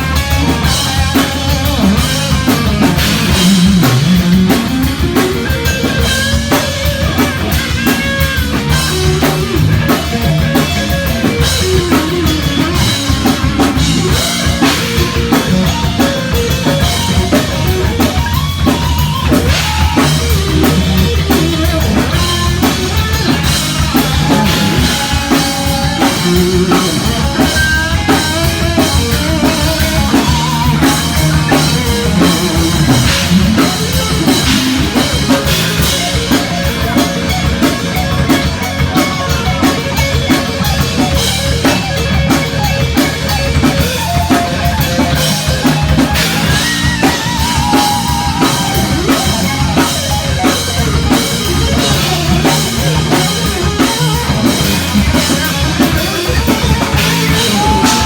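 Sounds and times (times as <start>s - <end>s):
heavy metal band playing: 0.0s - 58.0s
lead guitar bending notes: 0.0s - 58.0s.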